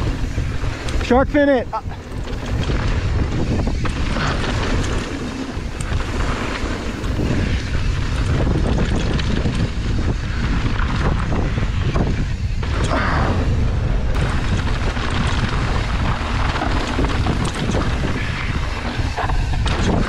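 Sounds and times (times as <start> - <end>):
bike tyre rumble: 0.0 - 20.0
wind buffeting microphone: 0.0 - 20.0
bike knocks and rattles: 1.9 - 13.2, 14.2 - 20.0.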